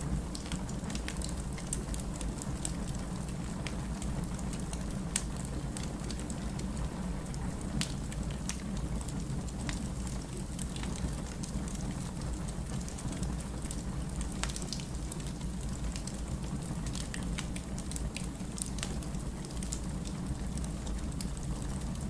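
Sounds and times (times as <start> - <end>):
firewood crackling and popping: 0.1 - 22.0.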